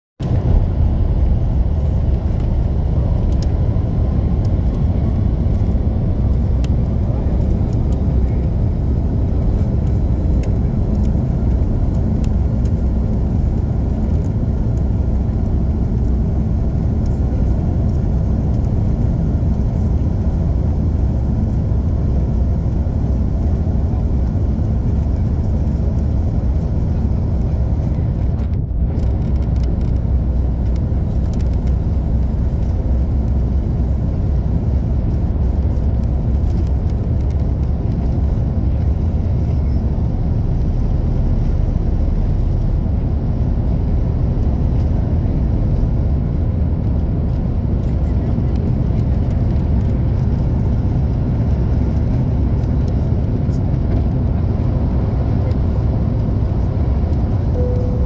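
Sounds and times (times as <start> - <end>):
jet engines at low thrust: 0.2 - 58.0.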